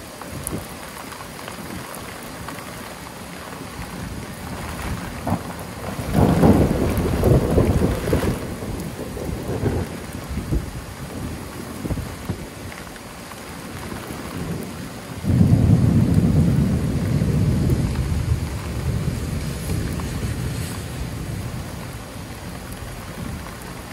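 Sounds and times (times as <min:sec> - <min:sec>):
steady rain: 0:00.0 - 0:23.9
thunder rumbling: 0:03.4 - 0:12.8, 0:13.4 - 0:23.9.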